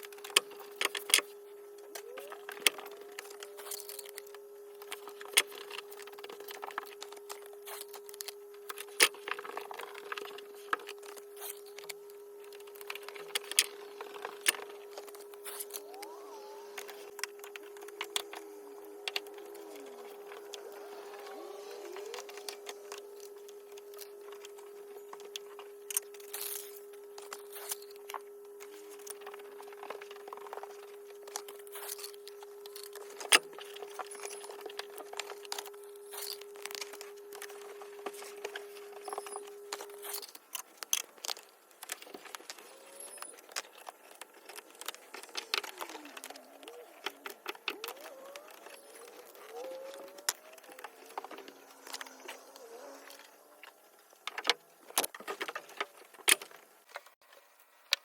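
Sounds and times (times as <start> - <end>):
steady hum: 0.0 - 57.1
clicks taps and crinkling: 0.0 - 58.0.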